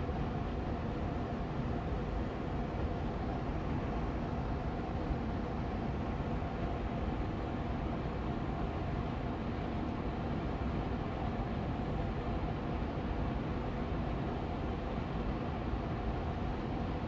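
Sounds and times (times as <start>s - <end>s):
air purifier fan running: 0.0s - 17.0s.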